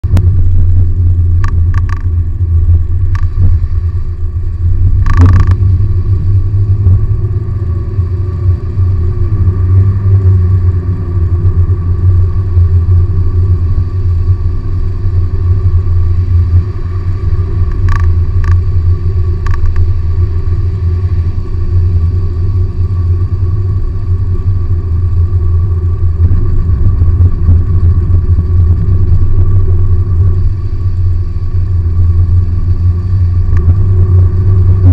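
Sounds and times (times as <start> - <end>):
car engine low rumble: 0.0 - 34.9
tyre and road noise: 0.0 - 34.9.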